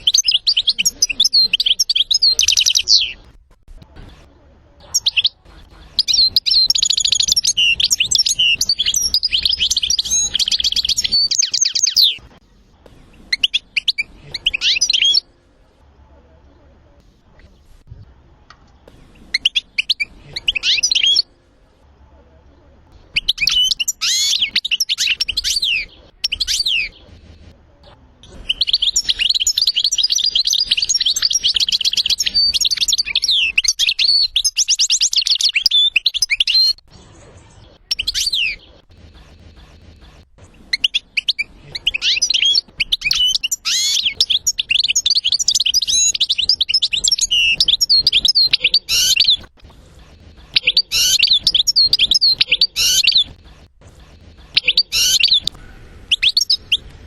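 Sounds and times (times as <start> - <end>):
bird twittering and trilling: 0.0 - 3.3, 4.8 - 12.3, 13.0 - 15.4, 18.6 - 21.3, 22.9 - 56.9.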